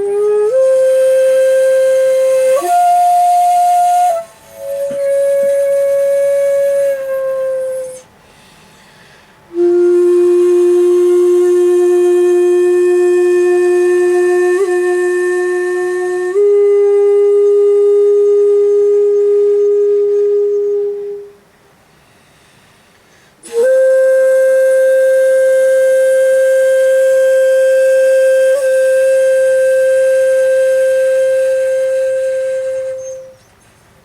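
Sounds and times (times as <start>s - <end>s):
shakuhachi long held notes: 0.0s - 21.6s, 23.4s - 33.9s.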